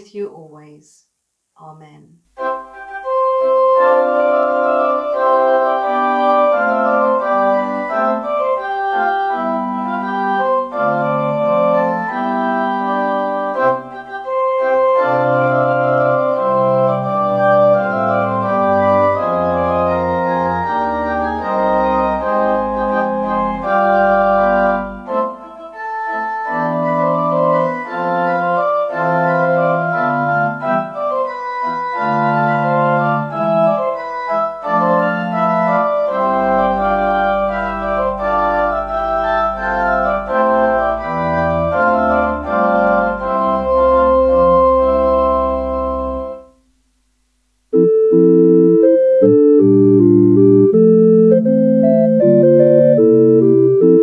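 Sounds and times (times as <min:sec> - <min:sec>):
organ playing sustained chords: 0:02.4 - 0:46.4, 0:47.7 - 0:54.0
deep organ pedal notes: 0:02.4 - 0:46.5, 0:47.7 - 0:54.0.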